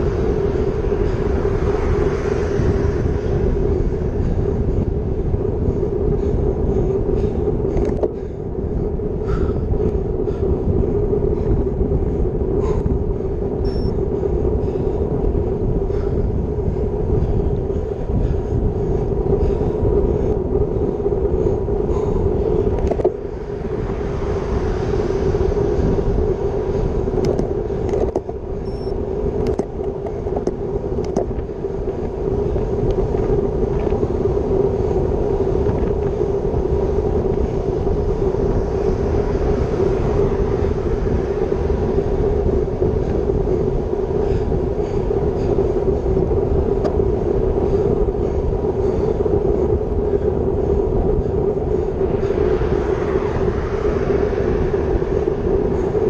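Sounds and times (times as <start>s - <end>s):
steady hum: 0.0s - 56.0s
wind rushing over microphone: 0.0s - 56.0s.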